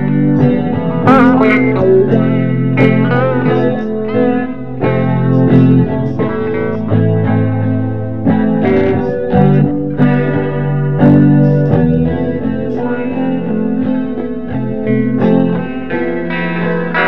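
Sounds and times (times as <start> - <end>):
blues guitar jam: 0.0 - 17.0.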